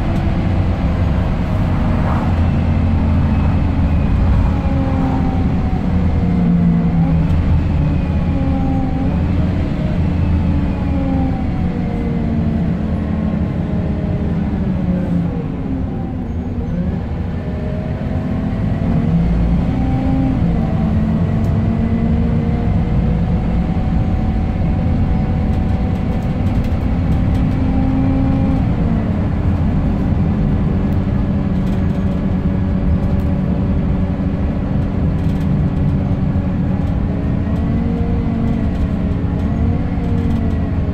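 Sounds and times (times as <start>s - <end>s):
bus diesel engine pulling: 0.0s - 40.9s.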